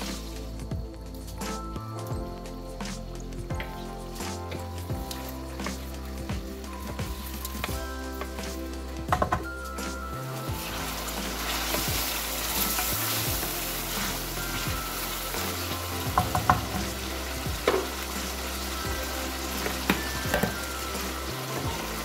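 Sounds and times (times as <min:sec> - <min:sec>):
chicken sizzling in hot oil: 0:02.8 - 0:22.0.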